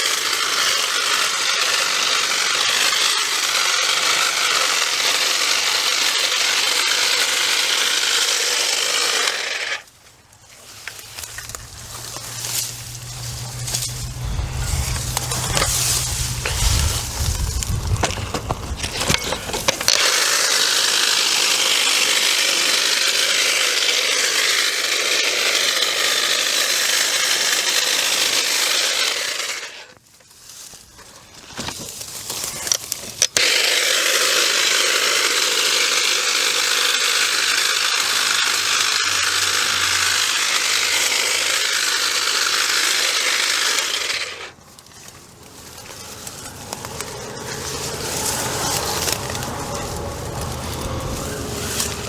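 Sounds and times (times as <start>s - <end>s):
electric brush cutter cutting: 0.0s - 30.0s, 31.6s - 52.0s.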